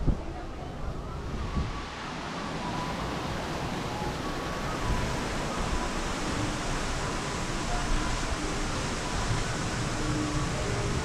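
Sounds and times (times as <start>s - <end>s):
gusty wind on microphone: 0.0s - 11.0s.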